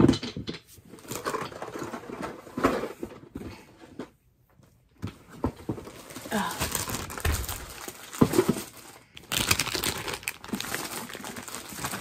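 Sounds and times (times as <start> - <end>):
items rustling and bumping in bin: 0.0 - 12.0.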